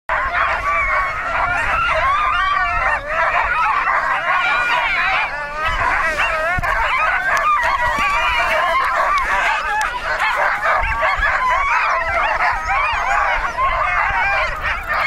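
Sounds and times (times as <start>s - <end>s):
dogs yelping barking and howling: 0.1s - 15.0s.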